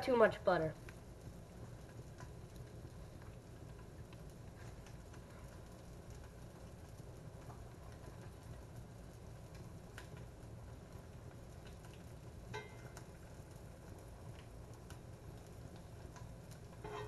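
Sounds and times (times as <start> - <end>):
frying pops and ticks: 0.0 - 17.0.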